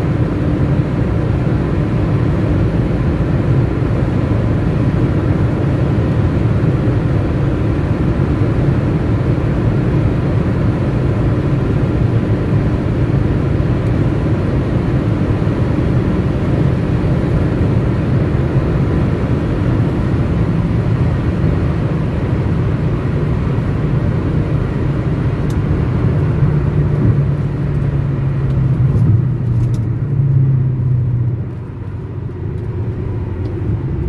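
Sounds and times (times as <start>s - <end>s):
car engine drone: 0.0s - 34.0s
road and wind noise: 0.0s - 34.0s.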